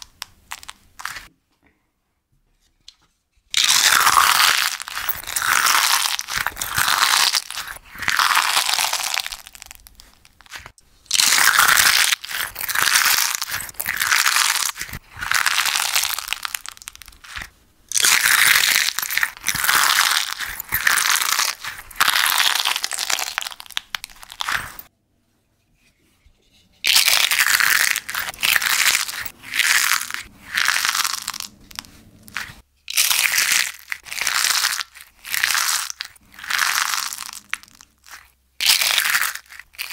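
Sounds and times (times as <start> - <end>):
crispy slime crackling and crunching: 3.5 - 24.9, 26.8 - 39.9.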